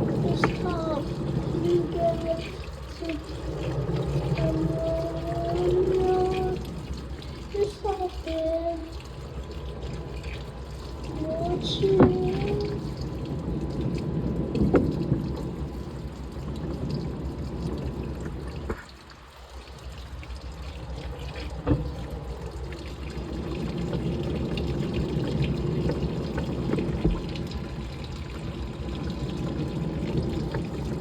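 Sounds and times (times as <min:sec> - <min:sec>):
washing machine water sloshing: 0:00.0 - 0:31.0.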